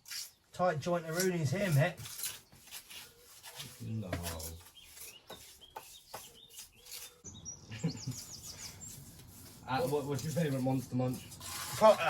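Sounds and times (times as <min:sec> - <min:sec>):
steel tool scraping mortar: 0:00.0 - 0:07.3, 0:08.1 - 0:12.0.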